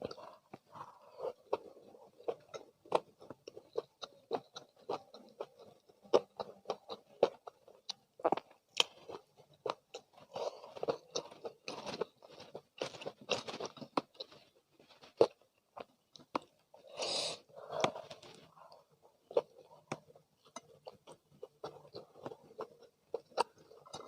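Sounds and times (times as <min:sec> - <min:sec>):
crunchy fried chicken chewing: 0:00.0 - 0:24.0.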